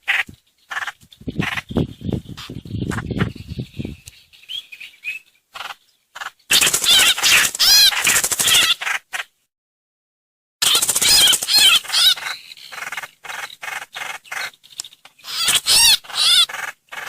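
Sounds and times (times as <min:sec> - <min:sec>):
harsh chattering bird chorus: 0:00.0 - 0:09.2, 0:10.6 - 0:17.0
bird chattering: 0:00.0 - 0:09.3, 0:10.6 - 0:17.0.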